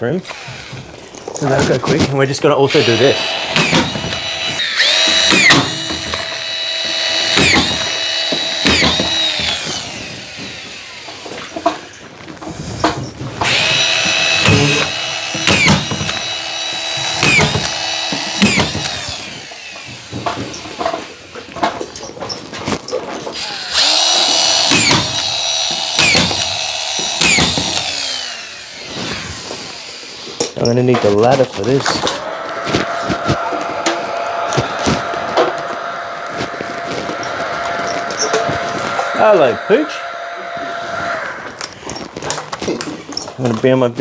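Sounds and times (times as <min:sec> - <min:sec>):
power drill motor whine: 0:00.2 - 0:01.7, 0:02.5 - 0:12.3, 0:13.4 - 0:21.0, 0:23.2 - 0:30.5, 0:31.7 - 0:43.3.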